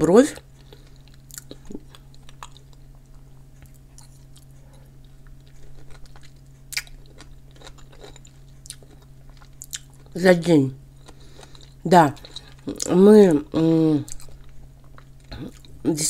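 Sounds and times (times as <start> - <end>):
low steady hum: 0.0 - 16.0
person chewing food: 0.4 - 10.2, 10.9 - 15.9.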